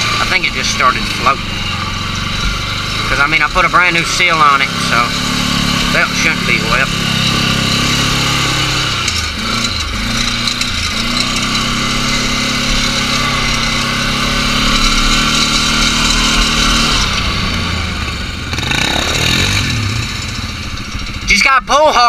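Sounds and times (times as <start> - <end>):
atv engine under throttle: 0.0 - 22.0.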